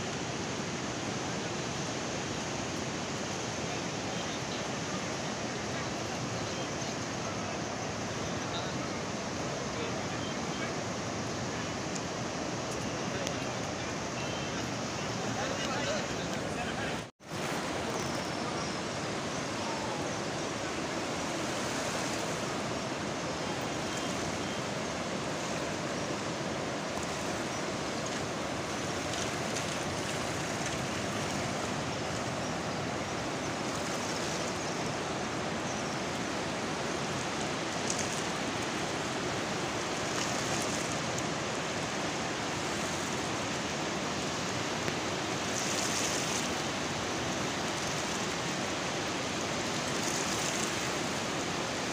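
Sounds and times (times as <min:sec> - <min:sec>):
floodwater rushing: 0:00.0 - 0:51.9.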